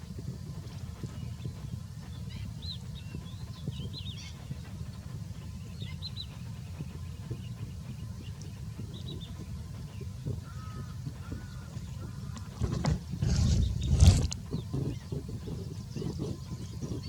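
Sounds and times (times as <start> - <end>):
small birds chirping: 1.0 - 17.0.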